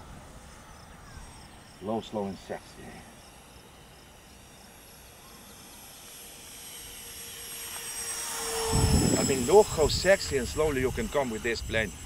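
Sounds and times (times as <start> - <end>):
electric ducted fans whining: 0.0 - 12.0
thin high tones: 0.3 - 12.0.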